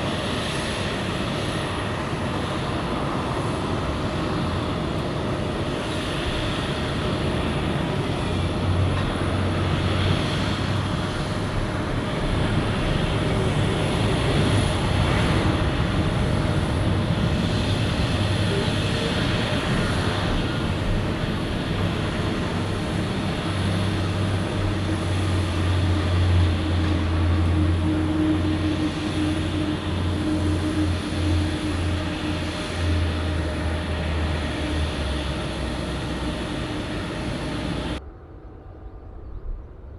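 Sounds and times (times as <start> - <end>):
jet engines: 0.0 - 39.9
low hum: 0.4 - 39.9.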